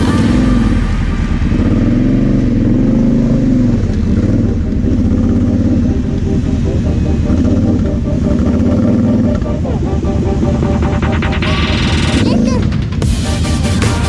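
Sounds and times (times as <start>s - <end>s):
quad engine revving: 0.0s - 14.0s.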